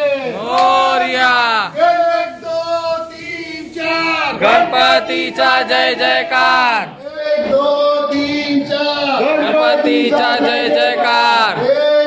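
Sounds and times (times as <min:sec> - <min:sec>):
people chanting rhythmically: 0:00.0 - 0:12.0.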